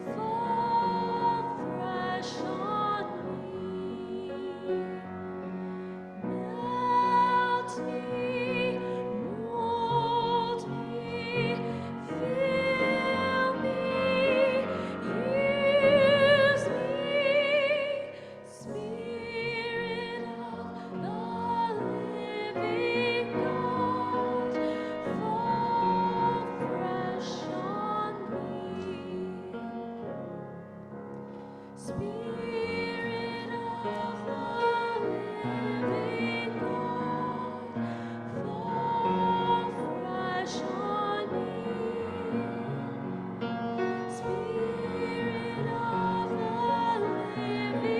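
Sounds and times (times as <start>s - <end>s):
voices singing a hymn: 0.0s - 30.3s, 31.3s - 47.9s.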